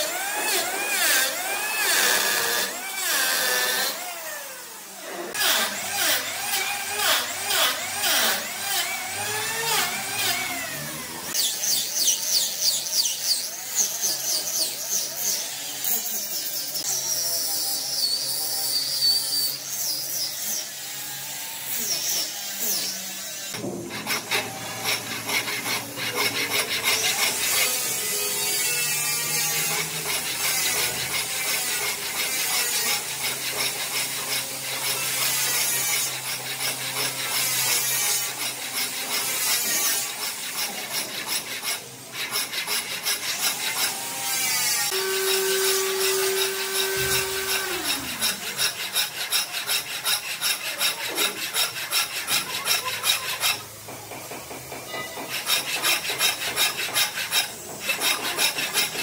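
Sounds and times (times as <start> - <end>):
sawing or sanding wood: 0.0 - 59.0.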